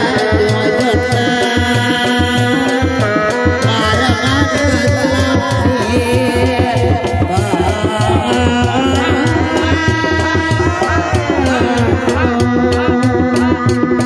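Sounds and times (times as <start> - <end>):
drums beating fast rhythm: 0.0 - 14.0.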